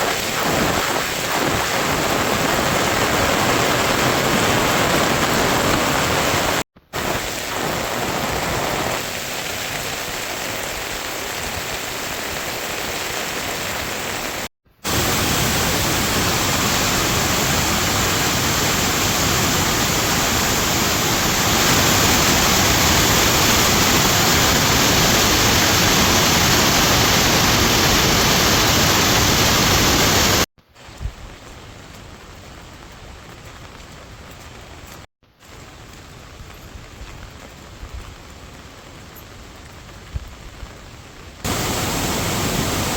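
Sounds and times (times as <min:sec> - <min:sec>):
steady rain hissing: 0:00.0 - 0:42.9.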